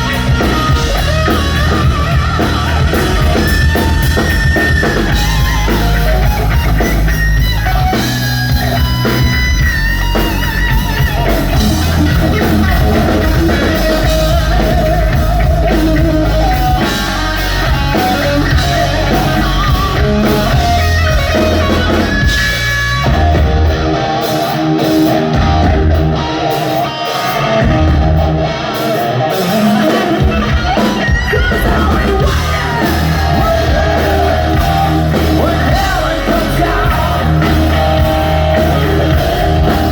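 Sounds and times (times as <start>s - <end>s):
distorted electric guitar: 0.0s - 39.9s
hard rock band playing live: 0.0s - 39.9s.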